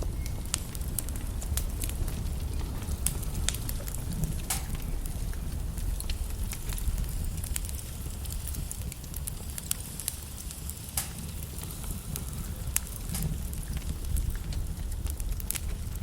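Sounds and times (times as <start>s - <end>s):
logs crackling in a fireplace: 0.0s - 16.0s.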